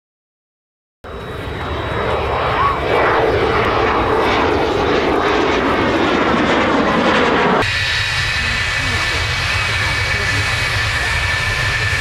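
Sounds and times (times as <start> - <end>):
jet flying past: 1.1 - 12.0.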